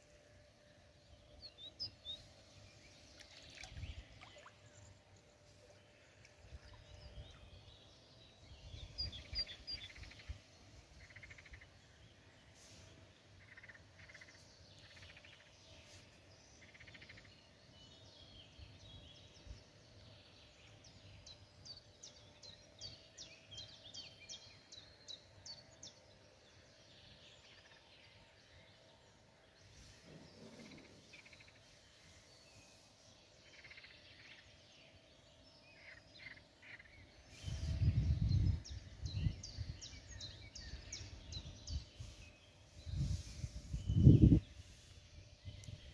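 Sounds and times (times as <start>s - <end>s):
bird chirping: 1.0s - 28.7s, 29.6s - 45.9s.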